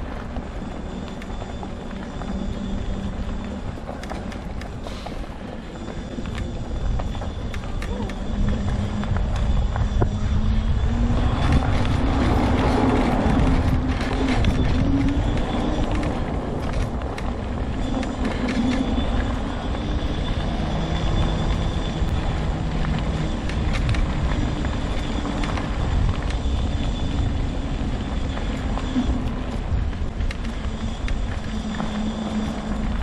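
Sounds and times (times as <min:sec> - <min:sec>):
electric motor whine: 0:00.0 - 0:33.0
tyres rumbling on path: 0:00.0 - 0:33.0.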